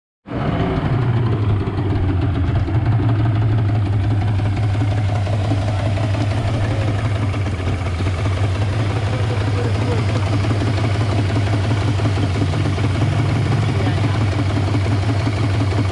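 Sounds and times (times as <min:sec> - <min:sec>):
outboard motor idling: 0:00.3 - 0:15.9.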